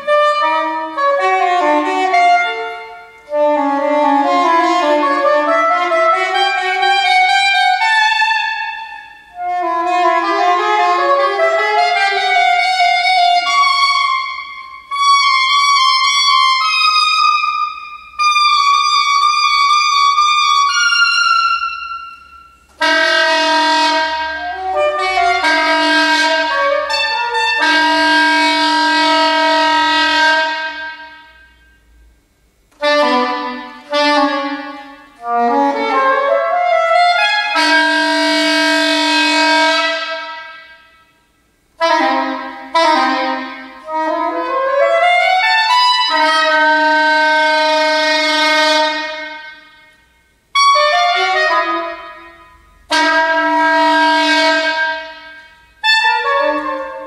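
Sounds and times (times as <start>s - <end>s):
solo classical saxophone: 0.0s - 57.0s.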